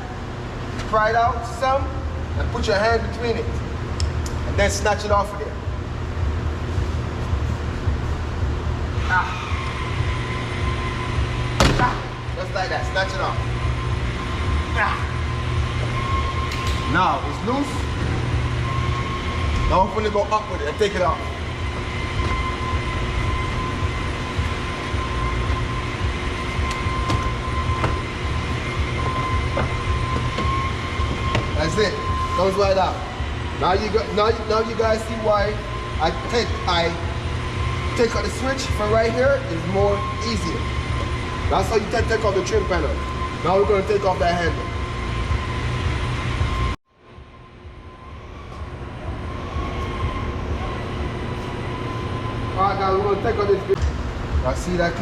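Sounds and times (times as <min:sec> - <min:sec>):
steady low rumble: 0:00.0 - 0:55.0
thin whine: 0:00.0 - 0:55.0.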